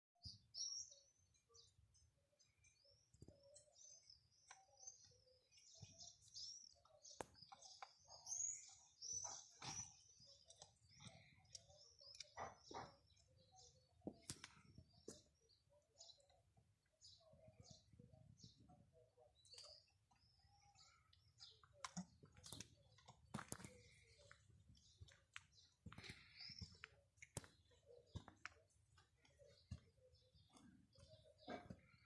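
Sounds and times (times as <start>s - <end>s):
small birds chirping: 0.2s - 32.0s.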